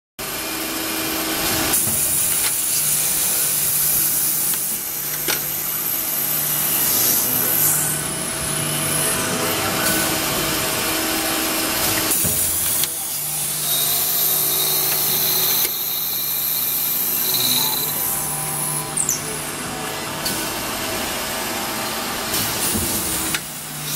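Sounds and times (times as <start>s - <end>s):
drilling machine whirring: 0.2s - 23.9s.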